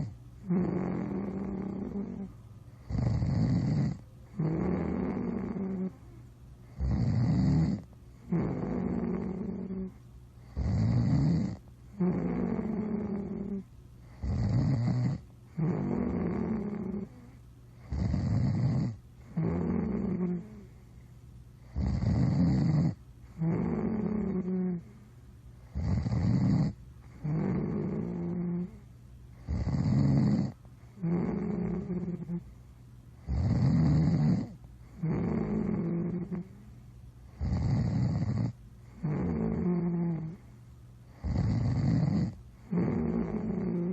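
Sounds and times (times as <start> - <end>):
rhythmic rattling snoring: 0.0 - 20.8, 21.6 - 25.0, 25.6 - 32.5, 33.2 - 40.5, 41.1 - 43.9.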